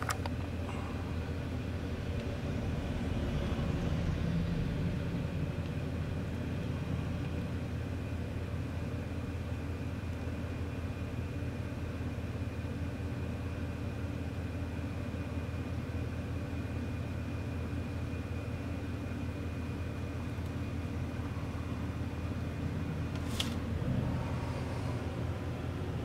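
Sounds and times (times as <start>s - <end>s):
turboprop engines whining: 0.0s - 26.0s.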